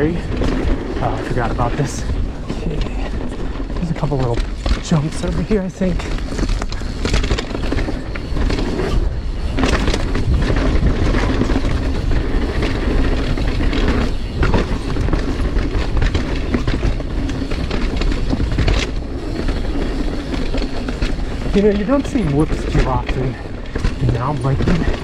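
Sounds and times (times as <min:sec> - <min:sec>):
bike rattling: 0:00.0 - 0:25.0
tyre and wind noise: 0:00.0 - 0:25.0.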